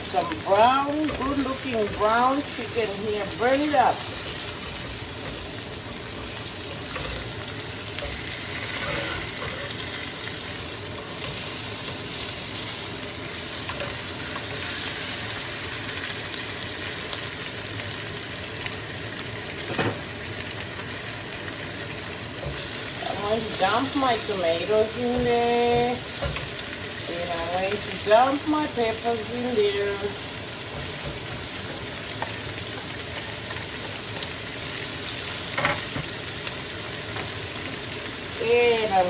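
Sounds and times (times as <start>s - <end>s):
chicken sizzling in a frying pan: 0.0s - 39.0s.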